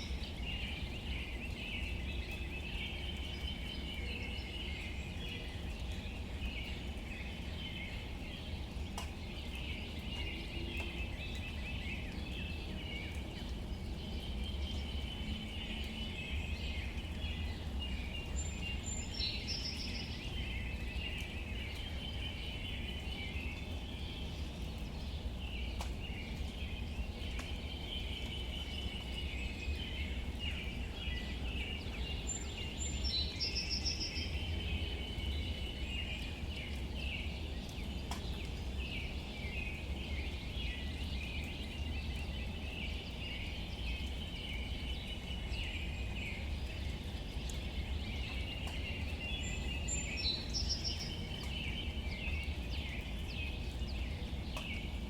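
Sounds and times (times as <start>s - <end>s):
birds chirping: 0.0s - 55.0s
light rain on leaves: 0.0s - 55.0s
water drips ticking: 0.0s - 55.0s.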